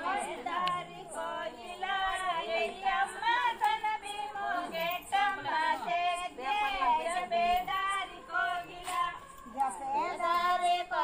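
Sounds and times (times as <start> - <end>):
women and girls singing: 0.0 - 11.0.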